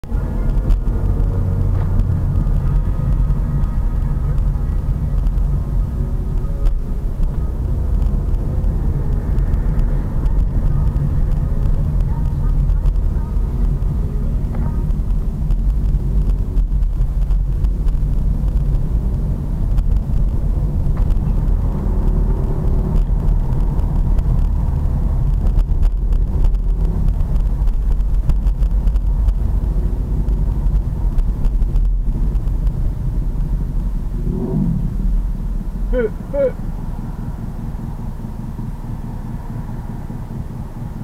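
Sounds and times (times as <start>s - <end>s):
pit bike engine running: 0.0s - 41.0s.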